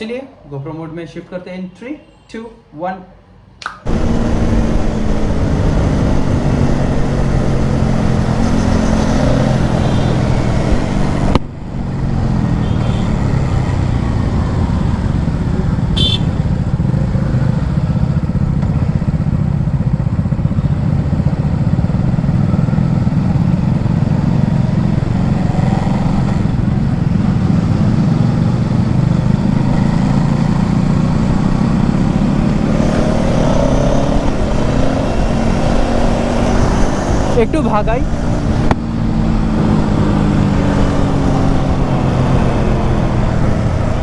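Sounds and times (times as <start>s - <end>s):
motorcycle engine running: 3.9s - 44.0s.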